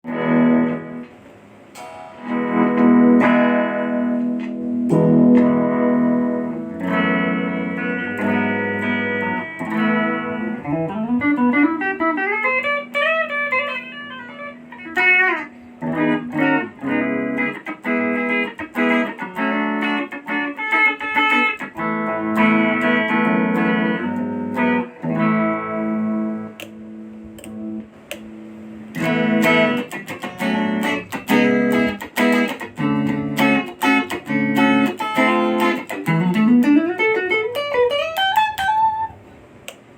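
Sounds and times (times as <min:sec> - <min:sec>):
electric guitar playing: 0:00.0 - 0:39.9.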